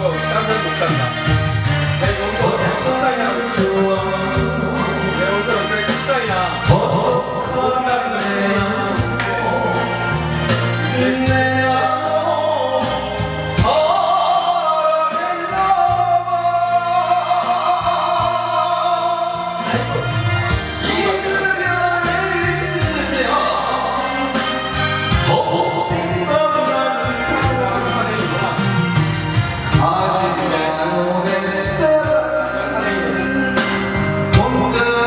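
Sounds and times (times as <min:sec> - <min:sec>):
backing track music: 0:00.0 - 0:35.0
man singing into microphone: 0:02.0 - 0:28.6, 0:29.7 - 0:35.0.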